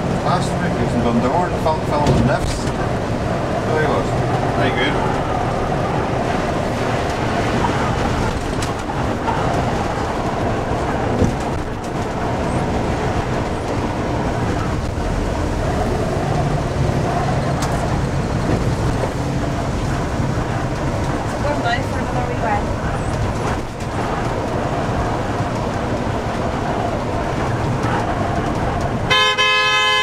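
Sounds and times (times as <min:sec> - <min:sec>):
coach engine drone: 0:00.0 - 0:30.0
road rumble: 0:00.0 - 0:30.0.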